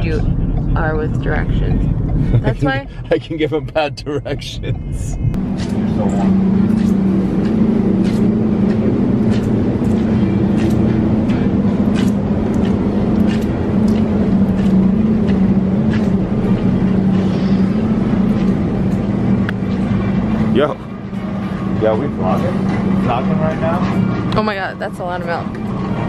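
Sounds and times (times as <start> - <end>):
refrigerated display cases humming: 0.0 - 26.0.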